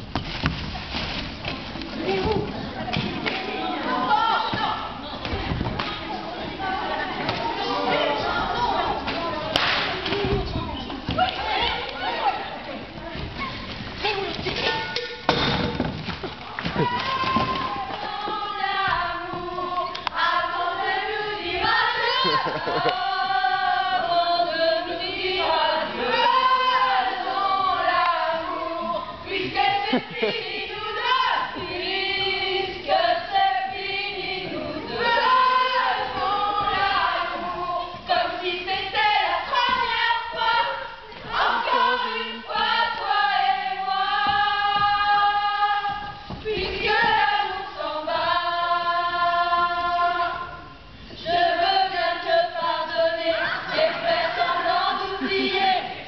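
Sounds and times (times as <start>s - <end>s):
women singing in chorus: 1.8s - 56.0s.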